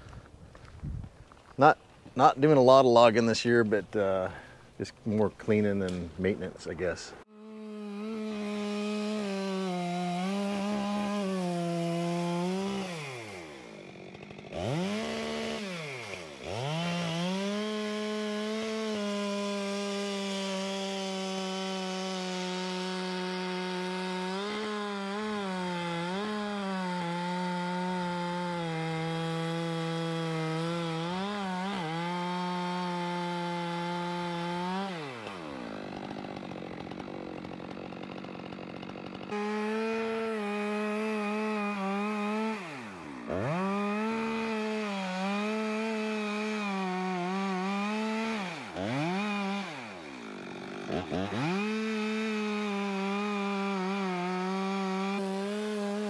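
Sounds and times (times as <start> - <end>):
chainsaw cutting wood: 1.3 - 56.0.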